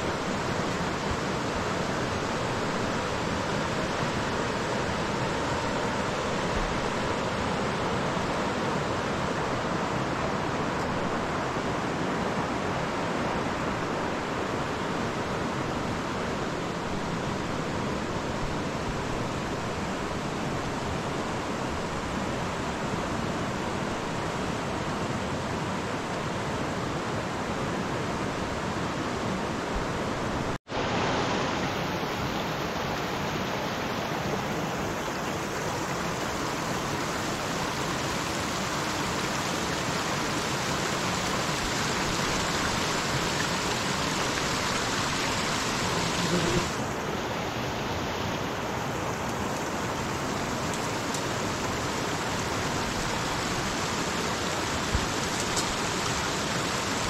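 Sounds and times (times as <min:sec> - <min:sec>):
fast-flowing river rushing: 0:00.0 - 0:57.0.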